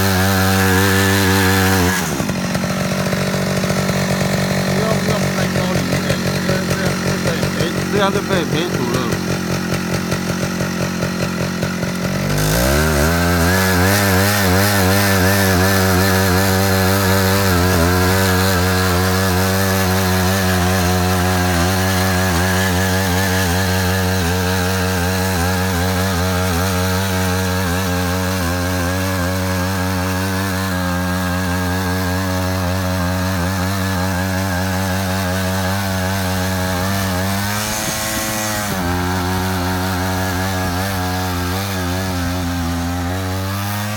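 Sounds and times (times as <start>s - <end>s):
power tiller engine running: 0.0s - 43.9s.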